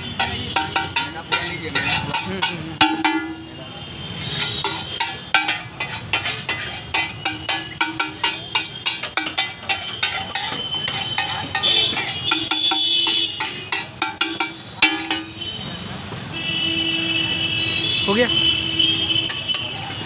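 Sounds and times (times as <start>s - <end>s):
metal spatula clanging on griddle: 0.0s - 15.7s, 18.9s - 20.0s.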